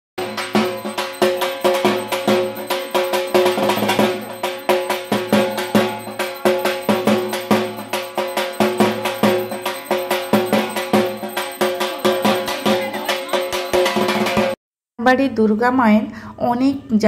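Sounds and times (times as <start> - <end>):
metal gong beaten with stick: 0.2 - 14.6.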